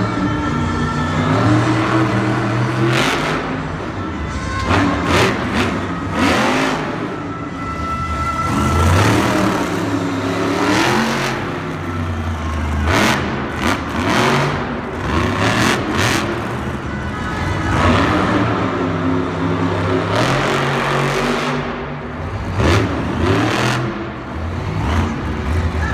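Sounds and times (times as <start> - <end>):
truck engines revving hard: 0.0 - 25.9.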